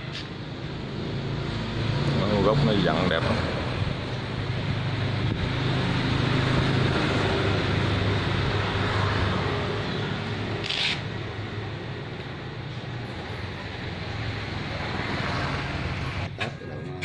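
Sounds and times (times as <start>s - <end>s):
traffic engine rumble: 0.0s - 17.0s.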